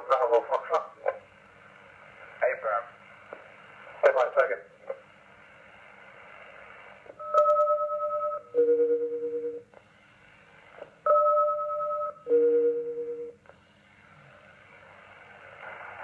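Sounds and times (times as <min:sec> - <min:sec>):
faint radio hiss: 0:00.0 - 0:16.0.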